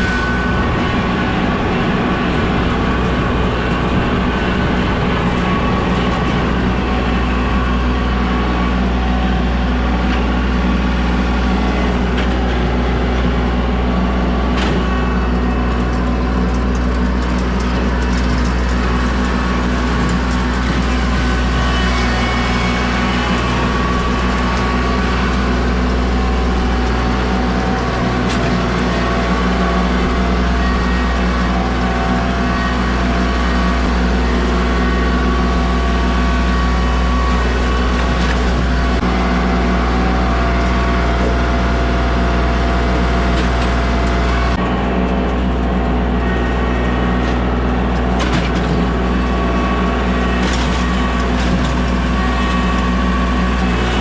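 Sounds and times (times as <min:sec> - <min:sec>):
heavy engine running steadily: 0:00.0 - 0:54.0.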